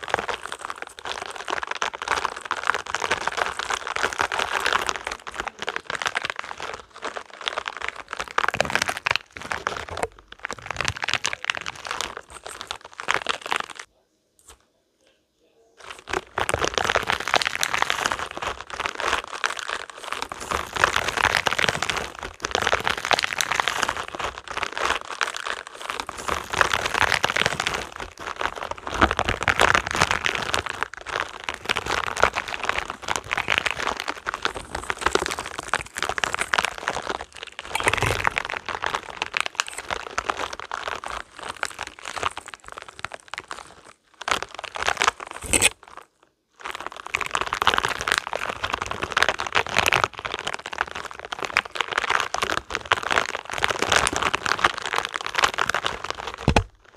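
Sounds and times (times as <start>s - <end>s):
rubber balls crackling rustle: 0.0s - 14.6s, 15.8s - 56.9s.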